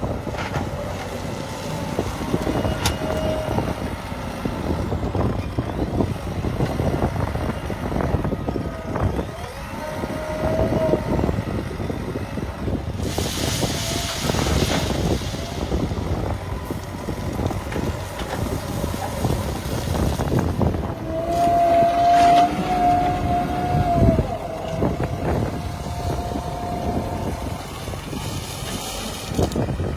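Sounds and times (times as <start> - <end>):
diesel machinery rumbling: 0.0 - 29.9.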